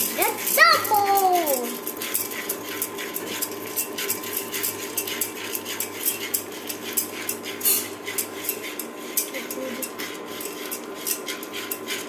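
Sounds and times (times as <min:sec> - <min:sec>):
cooktop hum: 0:00.0 - 0:12.0
kernels rattling and scraping in pan: 0:00.0 - 0:12.0.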